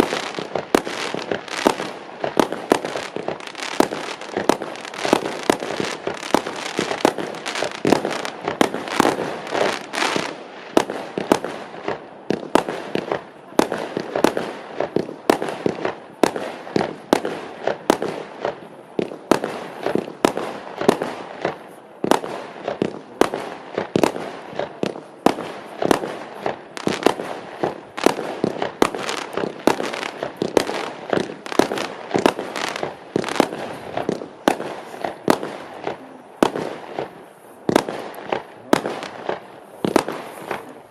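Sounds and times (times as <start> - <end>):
fireworks firing rapidly: 0.0 - 40.9.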